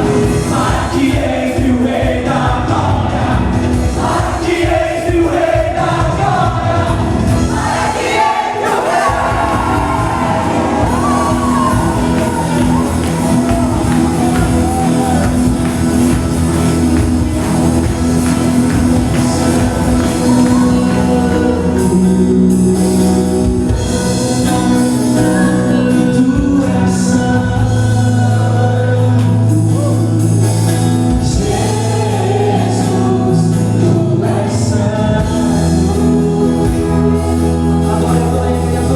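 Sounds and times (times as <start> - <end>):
sustained bass: 0.0 - 8.0, 9.0 - 38.9
voices singing worship music: 0.0 - 38.9
held instrumental chords: 5.4 - 38.9.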